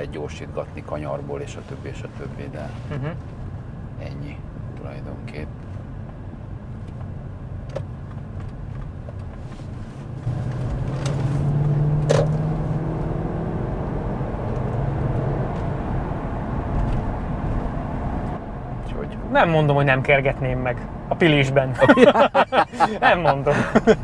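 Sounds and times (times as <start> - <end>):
car engine while driving: 0.0 - 24.0
road noise: 0.0 - 24.0.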